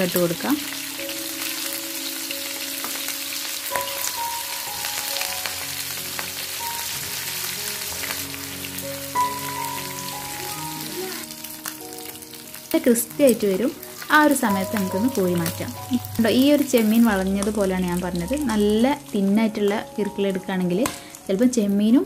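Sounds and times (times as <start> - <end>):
prawns sizzling in hot oil: 0.0 - 22.0.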